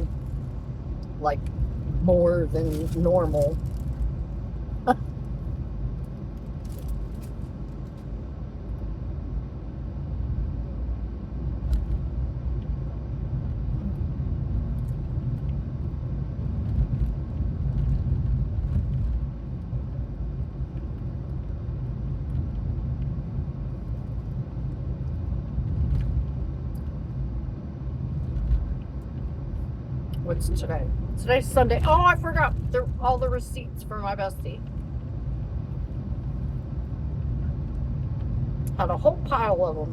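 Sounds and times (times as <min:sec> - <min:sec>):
car rumble: 0:00.0 - 0:39.9.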